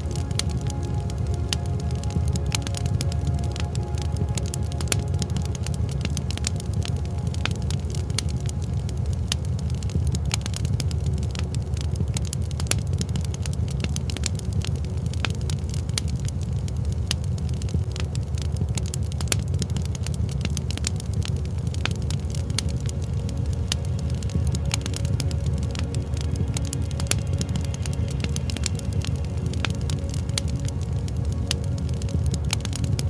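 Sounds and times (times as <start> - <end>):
fire low rumble: 0.0 - 33.0
wood fire crackling: 0.0 - 33.0.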